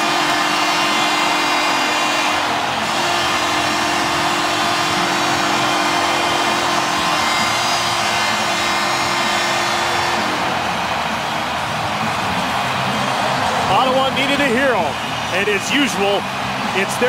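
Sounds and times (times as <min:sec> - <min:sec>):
goal horn: 0:00.0 - 0:15.3
crowd cheering: 0:00.0 - 0:17.0.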